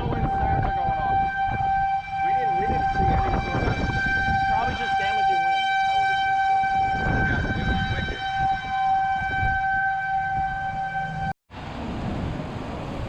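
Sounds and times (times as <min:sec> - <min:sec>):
warning siren steady pitch: 0:00.0 - 0:11.4
wind rumble: 0:00.0 - 0:13.0.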